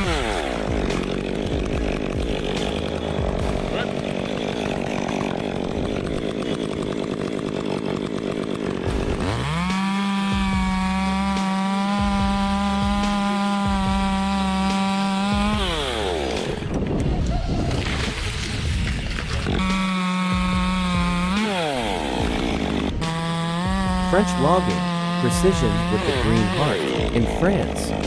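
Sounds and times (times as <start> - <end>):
two-stroke chainsaw revving: 0.0 - 17.0, 17.8 - 28.0.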